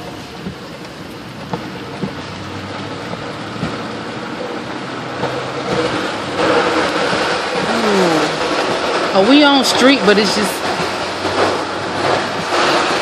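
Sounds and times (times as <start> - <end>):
tyres on flooded street: 0.0 - 13.0.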